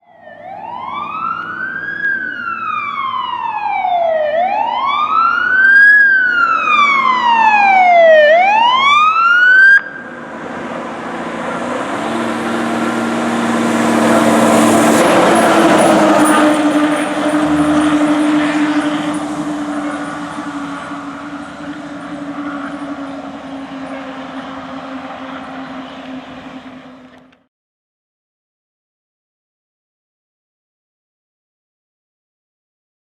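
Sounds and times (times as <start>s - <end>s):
fire engine siren wailing: 0.0s - 27.4s
truck engine and road noise: 0.0s - 27.5s.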